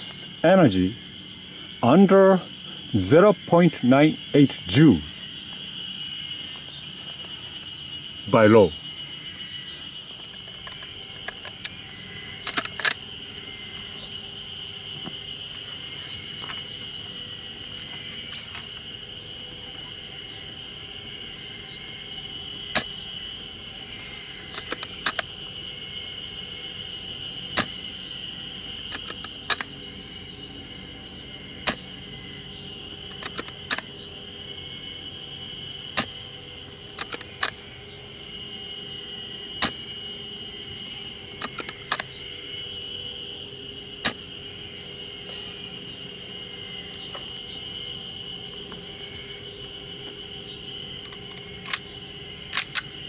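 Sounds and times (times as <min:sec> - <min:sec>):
high drone of insects: 0:00.0 - 0:53.0.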